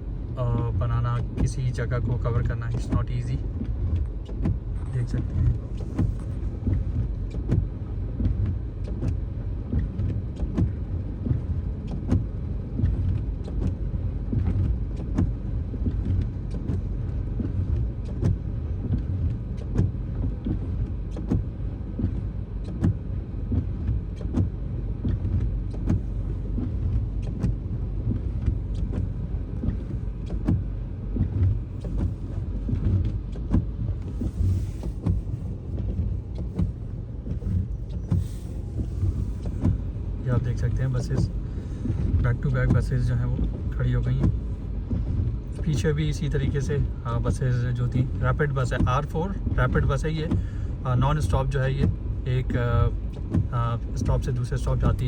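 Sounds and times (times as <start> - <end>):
car driving on snowy road: 0.0 - 55.0.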